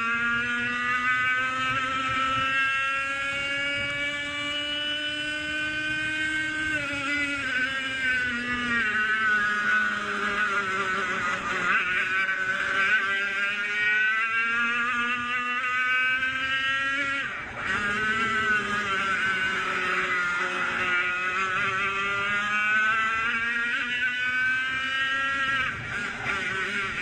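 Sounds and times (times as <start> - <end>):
kart engine whining: 0.0 - 27.0.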